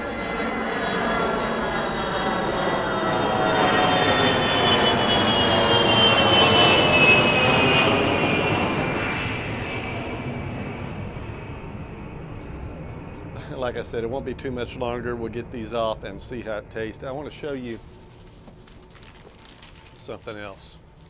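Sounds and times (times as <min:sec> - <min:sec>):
jet passing overhead: 0:00.0 - 0:18.5.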